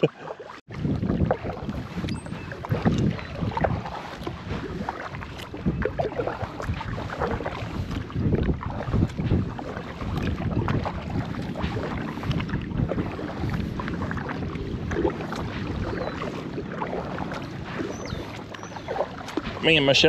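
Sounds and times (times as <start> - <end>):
wind buffeting microphone: 0.7 - 20.0.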